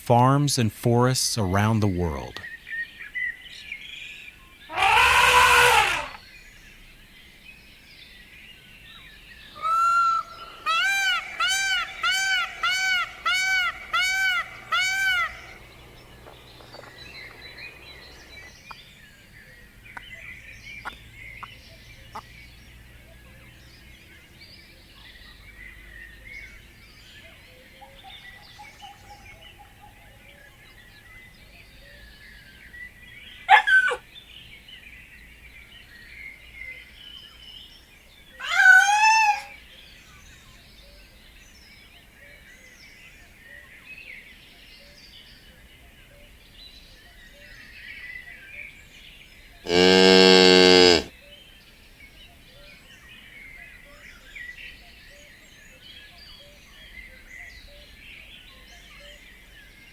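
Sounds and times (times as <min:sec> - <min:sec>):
birds chirping and twittering: 0:01.6 - 0:59.9.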